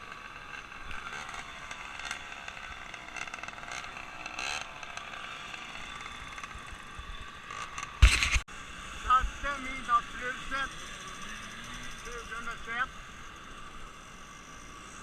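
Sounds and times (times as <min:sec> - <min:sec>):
motor vehicle running with whine: 0:00.0 - 0:15.0.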